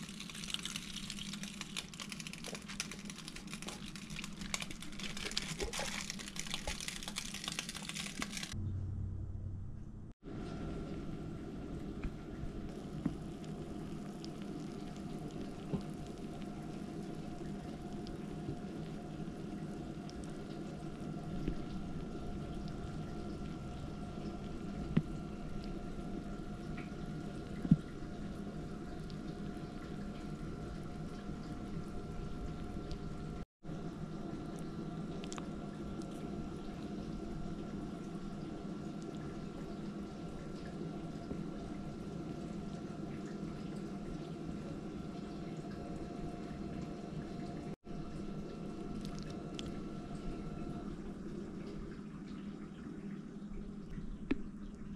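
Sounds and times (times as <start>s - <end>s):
low hum and hiss: 0.0s - 54.9s.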